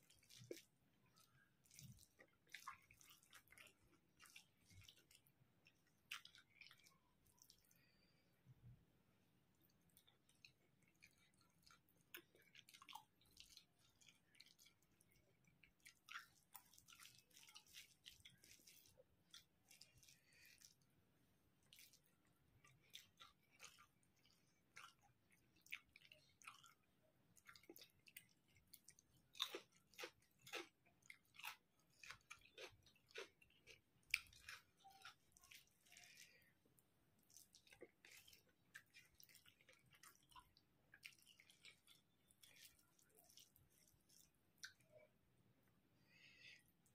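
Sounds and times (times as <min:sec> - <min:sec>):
mouth chewing food: 0:00.0 - 0:08.3, 0:09.5 - 0:46.9.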